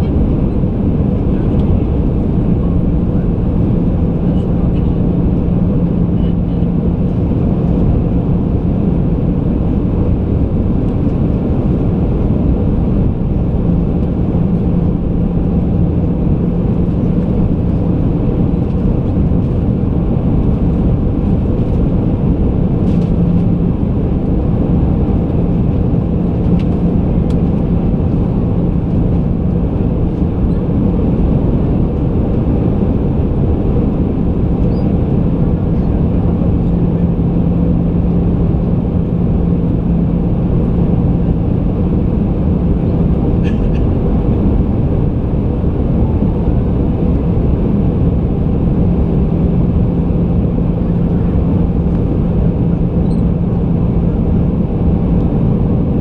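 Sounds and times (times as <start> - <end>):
aircraft engine and airflow rush: 0.0 - 56.0
low steady hum: 0.0 - 56.0.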